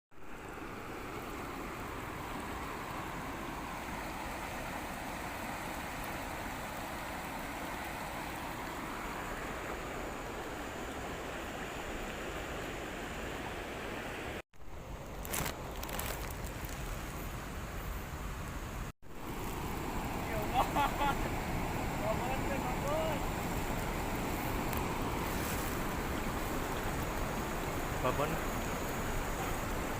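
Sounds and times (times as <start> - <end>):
river water rushing: 0.2 - 14.4, 18.2 - 29.9.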